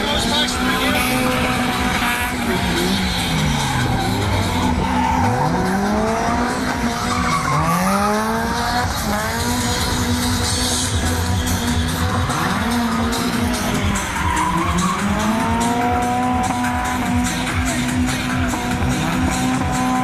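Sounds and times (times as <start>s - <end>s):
car engine revving hard: 0.0s - 20.0s
tyres squealing: 0.0s - 20.0s.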